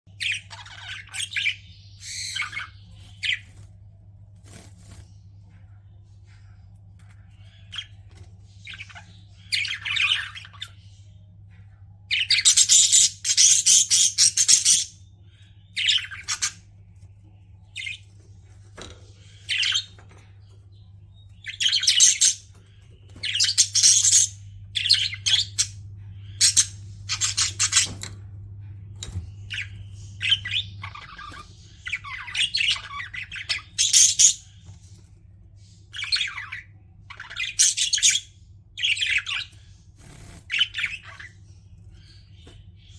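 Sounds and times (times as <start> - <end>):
budgerigars chirping and chattering: 0.1 - 42.9.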